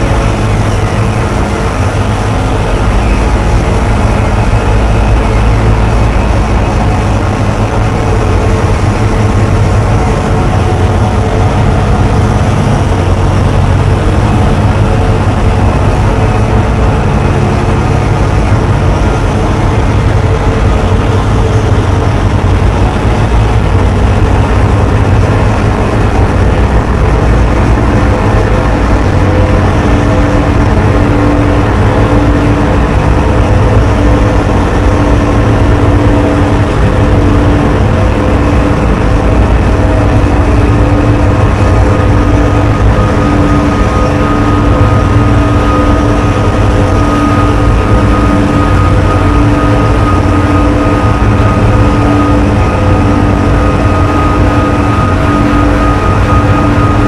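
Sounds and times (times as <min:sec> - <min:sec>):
harsh amplified grinding noise: 0:00.0 - 0:57.0
low hum: 0:00.0 - 0:57.0.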